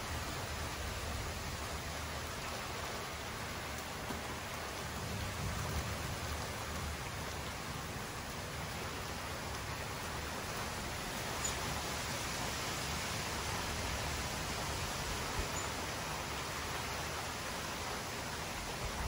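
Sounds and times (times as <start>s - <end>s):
heavy rain on the ground: 0.0s - 19.0s.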